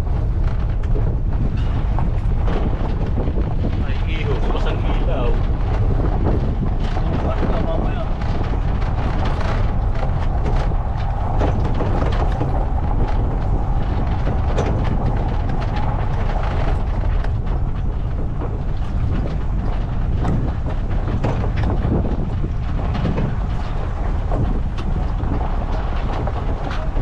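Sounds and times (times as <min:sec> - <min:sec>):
rattles and knocks: 0:00.0 - 0:27.0
steady hum: 0:00.0 - 0:27.0
trailer rumbling on gravel: 0:00.0 - 0:27.0
wind on microphone: 0:00.0 - 0:27.0.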